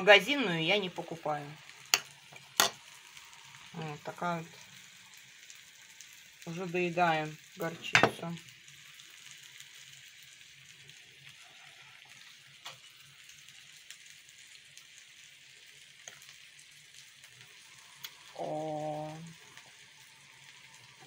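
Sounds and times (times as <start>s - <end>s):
fish sizzling in a pan: 0.0s - 21.0s.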